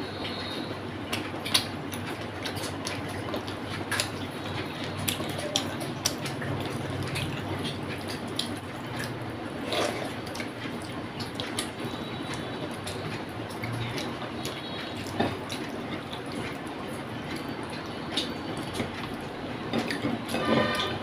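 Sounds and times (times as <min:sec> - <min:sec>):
chewing and lip smacks: 0:00.2 - 0:21.0.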